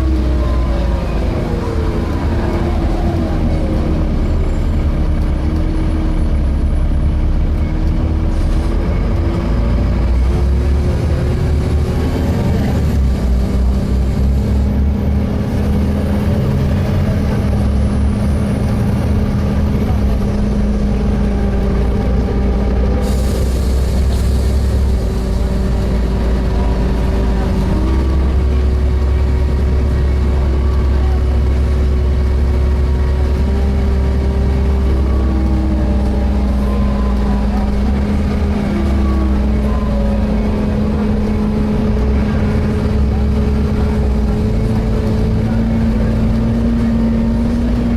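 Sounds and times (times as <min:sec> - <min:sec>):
bus diesel engine rumbling: 0:00.0 - 0:47.9.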